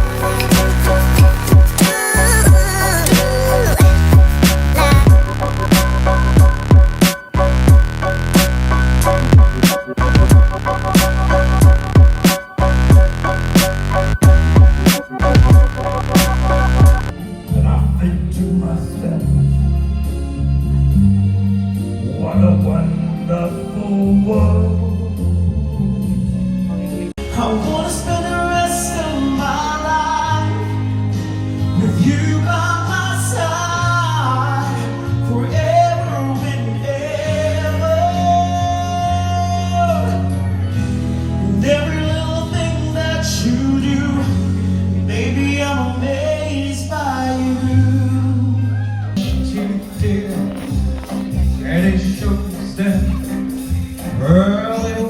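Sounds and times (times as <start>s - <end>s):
person singing karaoke: 0.0s - 7.9s, 11.5s - 55.0s
recorded backing track: 0.0s - 55.0s.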